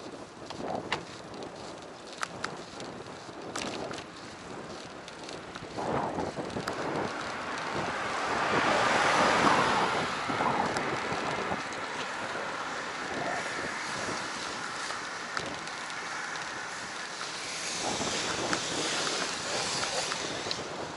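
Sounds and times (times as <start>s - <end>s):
bicycle road noise: 0.0s - 20.9s
rushing wind: 0.0s - 20.9s.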